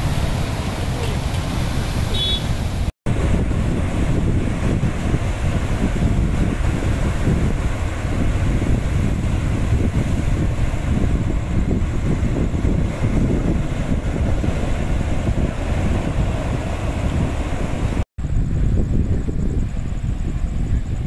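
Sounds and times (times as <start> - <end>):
waves breaking on rocky shore: 0.0 - 18.0
wind buffeting microphone: 0.0 - 21.0.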